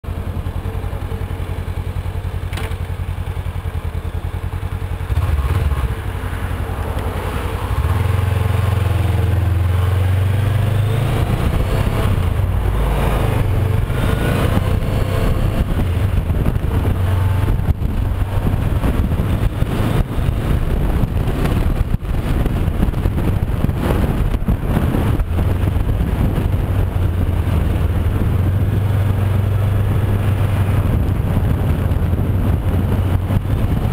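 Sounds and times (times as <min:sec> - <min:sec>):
motorcycle engine running: 0:00.0 - 0:33.9
road noise: 0:00.0 - 0:33.9.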